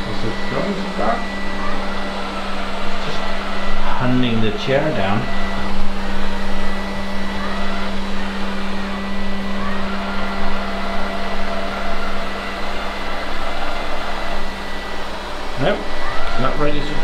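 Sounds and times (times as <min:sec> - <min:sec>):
robot vacuum cleaner drone: 0:00.0 - 0:17.0
thin high whine: 0:00.0 - 0:17.0.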